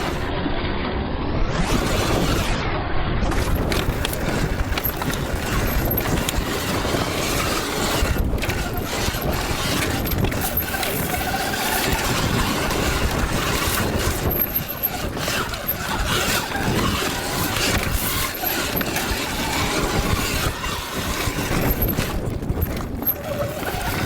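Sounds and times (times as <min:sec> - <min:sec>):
electric dirt bike riding: 0:00.0 - 0:24.0
wind rush: 0:00.0 - 0:24.0
tyres on dirt and stones: 0:03.2 - 0:24.0
knocks and rattles: 0:03.3 - 0:24.0.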